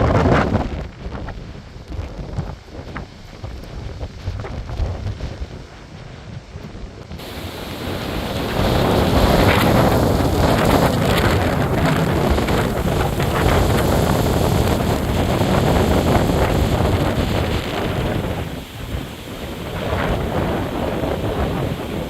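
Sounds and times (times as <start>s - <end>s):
strong wind on microphone: 0.0s - 22.0s.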